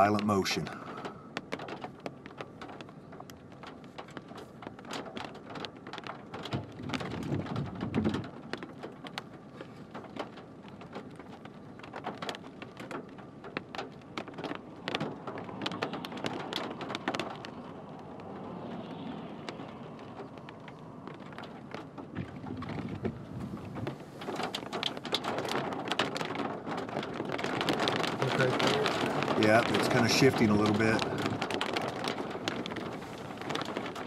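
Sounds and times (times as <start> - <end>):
rain ticking on car windshield: 0.0 - 34.0.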